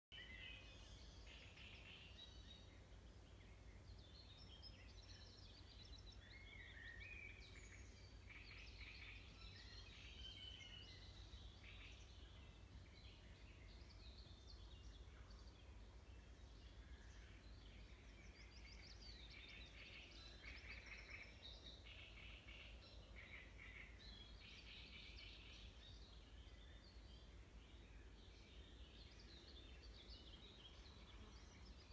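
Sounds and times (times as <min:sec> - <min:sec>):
songbirds chirping and trilling: 0:00.1 - 0:31.9.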